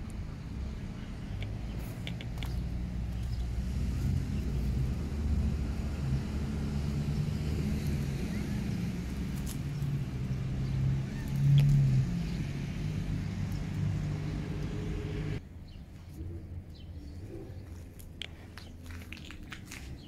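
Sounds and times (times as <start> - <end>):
motor vehicle engine rumbling: 0.0 - 20.0.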